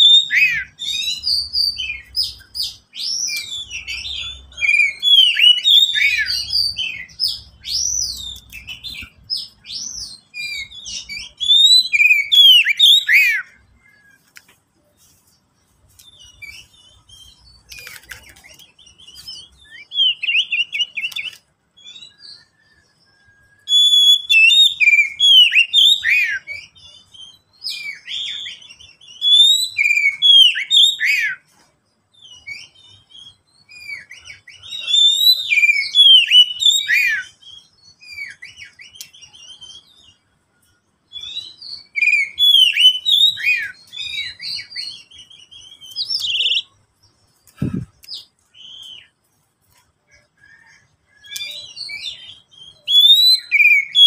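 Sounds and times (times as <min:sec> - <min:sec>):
songbird singing whistles: 0:00.0 - 0:14.2, 0:16.0 - 0:31.5, 0:32.1 - 0:46.8, 0:47.4 - 0:49.2, 0:50.1 - 0:54.0.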